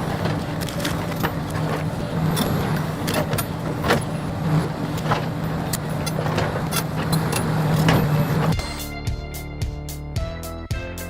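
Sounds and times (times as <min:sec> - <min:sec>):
excavator engine running: 0:00.0 - 0:09.5.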